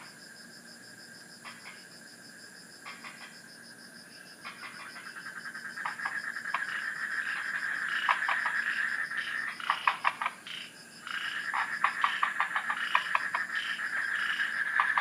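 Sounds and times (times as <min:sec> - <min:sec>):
frogs croaking: 0:00.0 - 0:15.0
insect chorus: 0:00.0 - 0:15.0.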